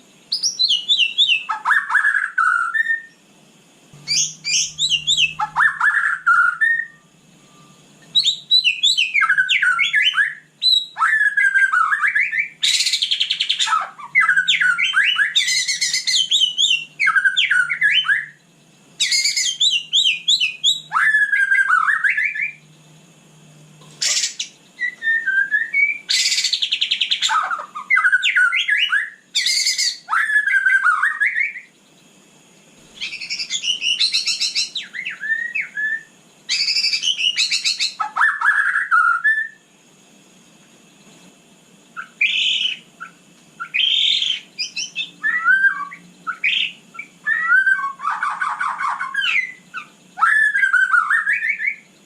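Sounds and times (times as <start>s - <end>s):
bird singing whistles and chatter: 0.3s - 3.2s, 4.0s - 18.4s, 19.0s - 22.8s, 23.9s - 31.7s, 32.8s - 39.6s, 41.9s - 51.9s.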